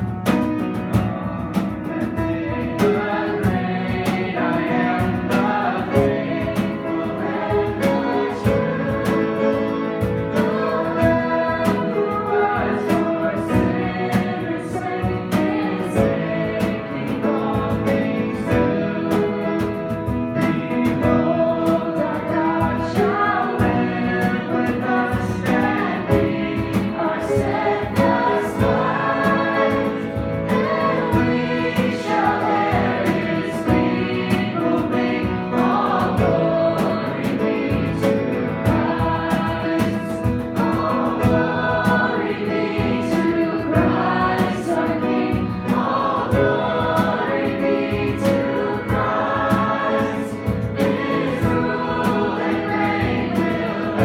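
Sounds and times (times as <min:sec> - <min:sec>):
instrumental accompaniment: 0:00.0 - 0:54.0
voices singing together: 0:00.0 - 0:54.0.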